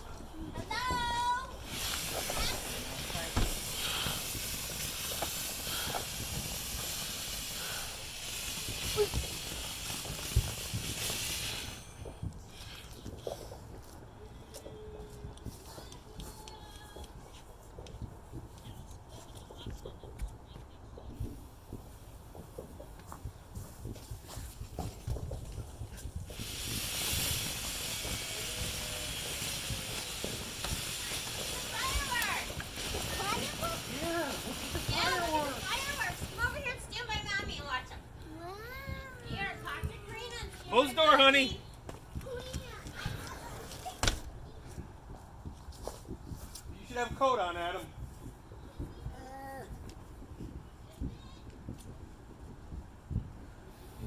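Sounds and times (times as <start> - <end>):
firework fountain hissing: 0.0 - 54.0.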